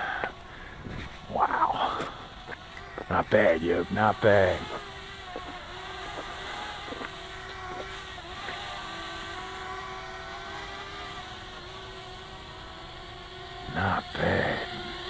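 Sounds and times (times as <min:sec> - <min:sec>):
quadcopter propellers whirring: 0:00.0 - 0:15.0.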